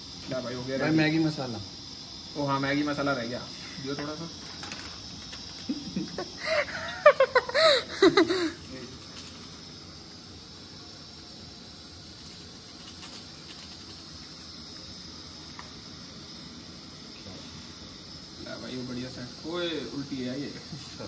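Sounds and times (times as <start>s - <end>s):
night insects hissing: 0.0s - 21.0s.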